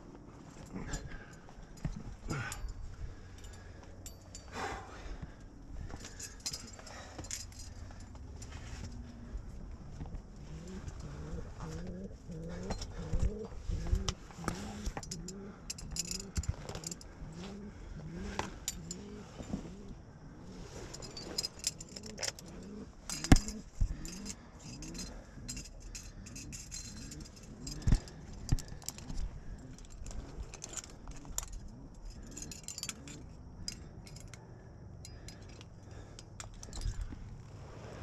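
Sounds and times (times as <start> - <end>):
metal climbing gear jangling: 0.2 - 19.9, 20.5 - 37.4.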